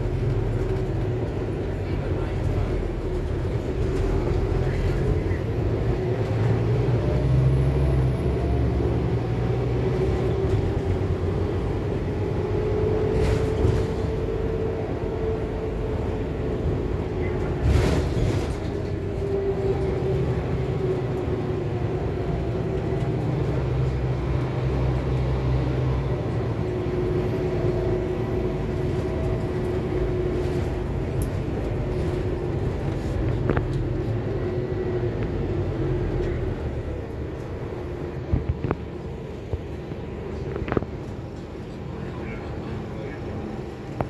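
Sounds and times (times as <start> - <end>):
bus cabin rumble: 0.0 - 44.0
engine whine: 0.0 - 44.0.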